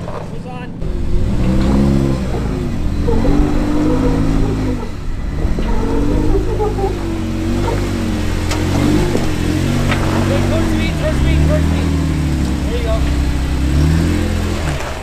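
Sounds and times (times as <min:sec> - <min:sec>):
off-road engine revving: 0:00.0 - 0:15.0
steady low rumble: 0:00.4 - 0:15.0.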